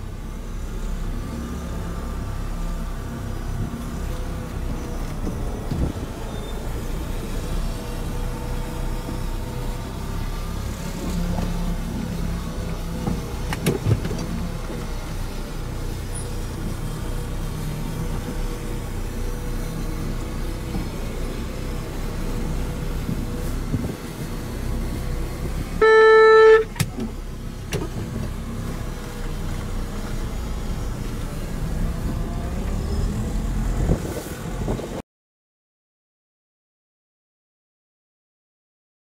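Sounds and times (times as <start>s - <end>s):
car engine running at low speed: 0.0s - 35.0s.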